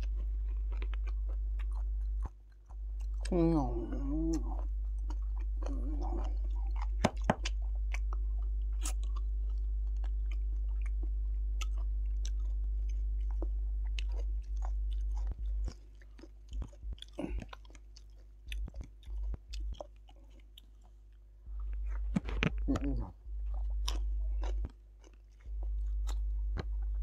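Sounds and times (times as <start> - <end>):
person chewing with wet smacking: 0.0 - 27.0
steady low hum: 0.0 - 27.0.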